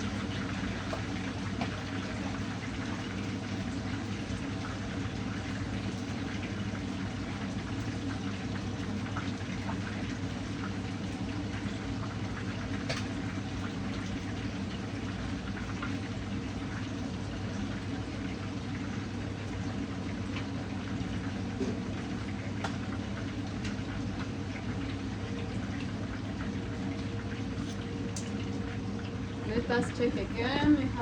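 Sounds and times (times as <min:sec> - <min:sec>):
food bubbling and hissing in pan: 0:00.0 - 0:31.0
low steady hum: 0:00.0 - 0:31.0.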